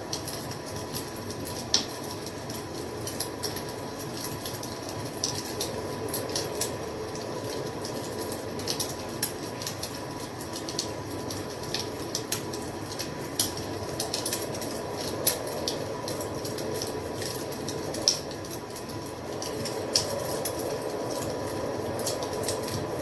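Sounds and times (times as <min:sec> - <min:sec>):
wood fire crackling: 0:00.0 - 0:23.0
flames rushing: 0:02.0 - 0:23.0.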